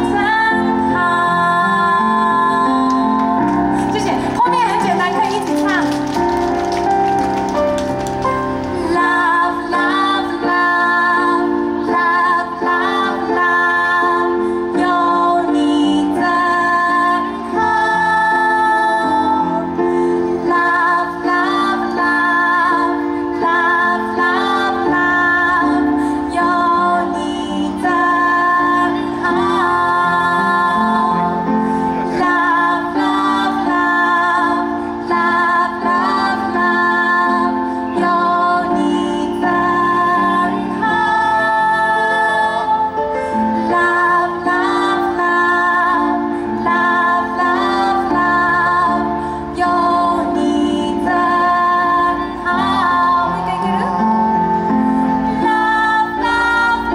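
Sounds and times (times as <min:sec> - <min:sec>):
woman singing with vibrato: 0:00.0 - 0:06.0, 0:08.7 - 0:56.9
instrumental accompaniment: 0:00.0 - 0:56.9.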